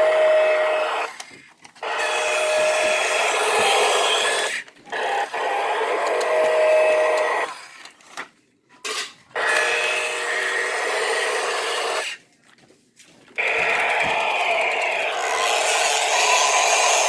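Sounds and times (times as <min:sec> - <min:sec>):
toy bulldozer whirring: 0:00.0 - 0:08.0, 0:09.3 - 0:12.2, 0:13.3 - 0:17.0.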